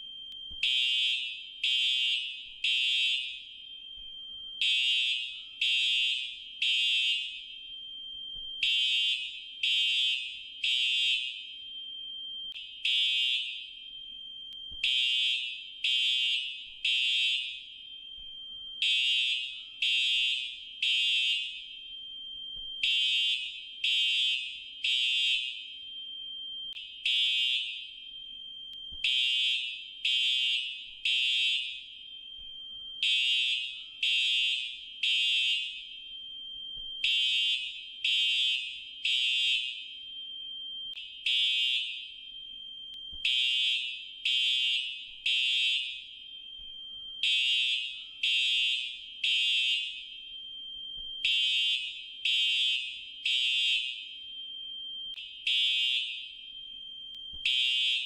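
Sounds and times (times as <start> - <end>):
fire alarm beeps: 0.0 - 58.0.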